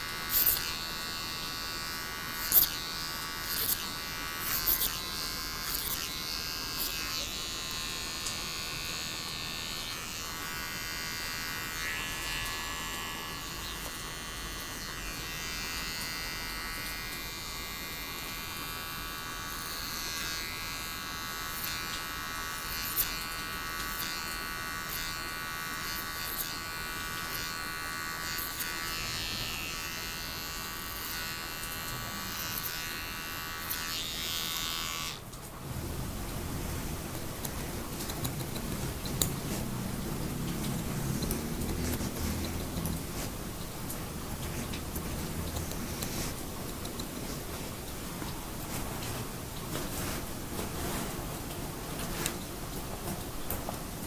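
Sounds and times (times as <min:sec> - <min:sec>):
electric hair clippers buzzing: 0:00.0 - 0:50.5.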